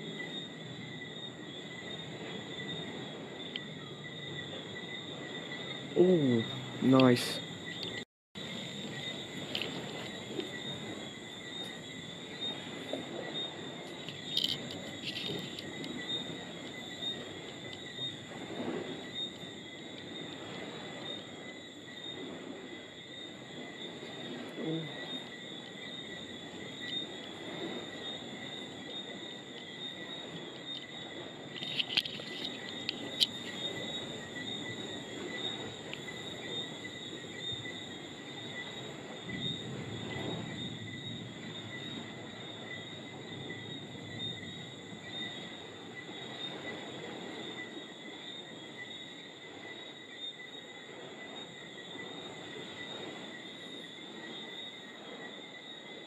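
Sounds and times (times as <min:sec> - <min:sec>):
insect chirring: 0:00.0 - 0:56.0.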